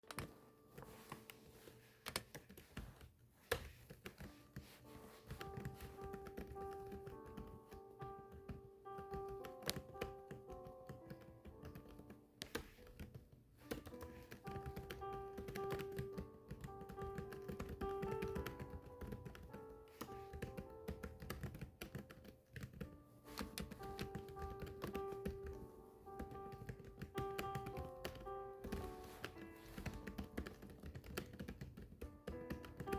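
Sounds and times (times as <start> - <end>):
keyboard keys clicking: 0.0 - 32.9
soft background music: 0.0 - 32.9.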